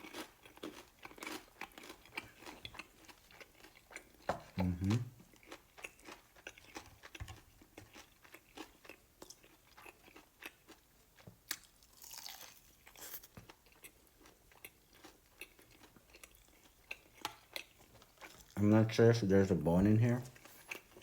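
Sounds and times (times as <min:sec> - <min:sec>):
crunching and chewing fried chicken: 0:00.0 - 0:21.0.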